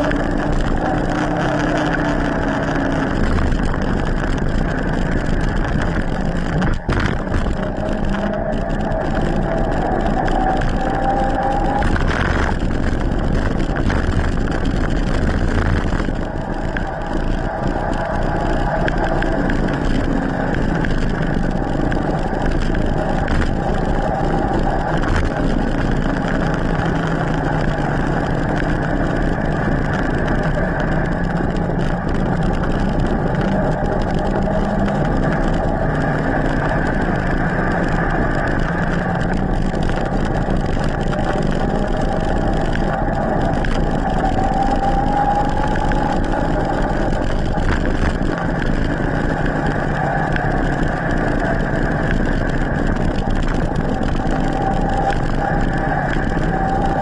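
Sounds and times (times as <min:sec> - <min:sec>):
tyre noise on asphalt: 0:00.0 - 0:57.0
wind rushing: 0:00.0 - 0:57.0.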